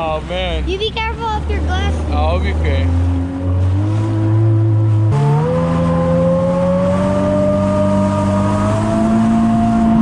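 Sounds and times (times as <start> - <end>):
jet ski engine revving: 0.0 - 10.0.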